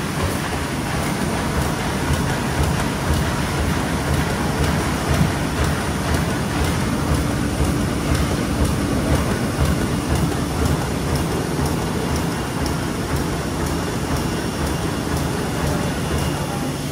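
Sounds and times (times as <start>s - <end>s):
book-sewing machine clattering: 0.0s - 16.6s.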